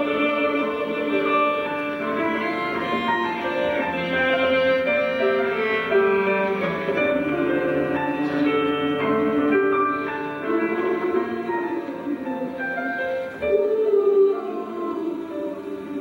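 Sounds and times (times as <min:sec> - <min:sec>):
bowed strings with cello: 0:00.0 - 0:16.0
choir singing sustained notes: 0:00.0 - 0:16.0.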